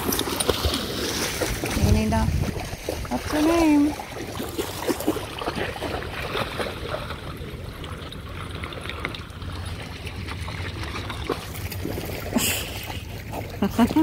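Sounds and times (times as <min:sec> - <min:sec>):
dogs splashing in water: 0:00.0 - 0:14.0
seawater sloshing over pebbles: 0:00.0 - 0:14.0.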